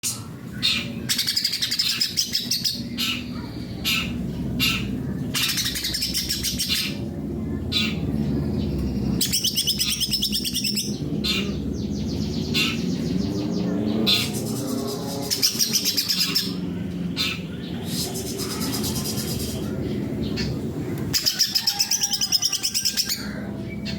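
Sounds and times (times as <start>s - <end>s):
bird singing warbles and trills: 0.0s - 23.9s.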